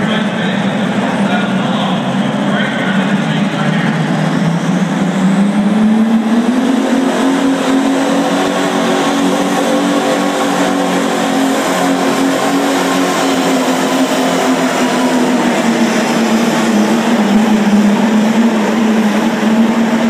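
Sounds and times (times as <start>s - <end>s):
tractor engine at full throttle: 0.0s - 20.0s.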